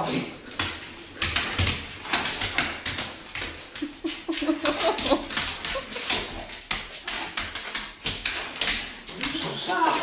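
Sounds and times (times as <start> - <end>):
rustling and tapping: 0.4 - 10.0.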